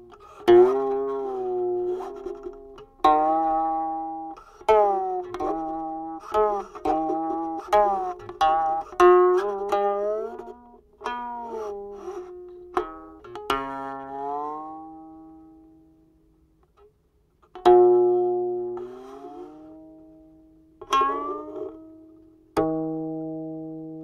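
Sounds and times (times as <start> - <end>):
plucked zither notes bending: 0.0 - 15.9, 17.4 - 24.0.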